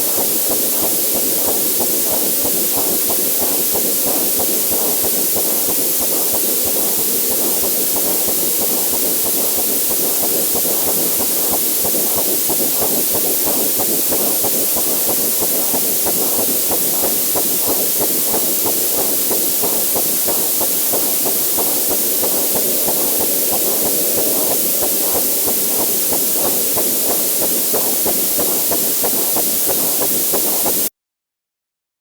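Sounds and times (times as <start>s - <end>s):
fetal heartbeat pulsing: 0.0s - 30.9s
steady hiss: 0.0s - 30.9s.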